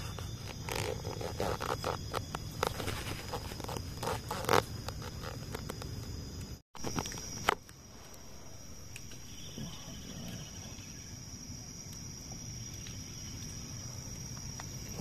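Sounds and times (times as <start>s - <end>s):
night insects chorus: 0.0s - 15.0s.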